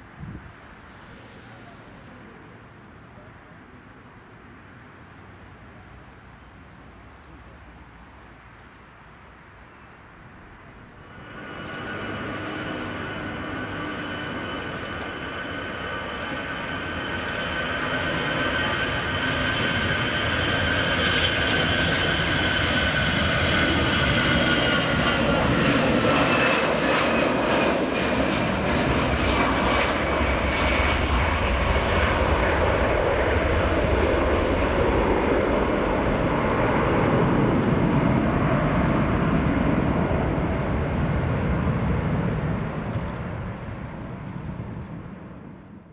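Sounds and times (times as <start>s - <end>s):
jet engines roaring at takeoff: 0.0s - 5.4s, 10.0s - 45.9s.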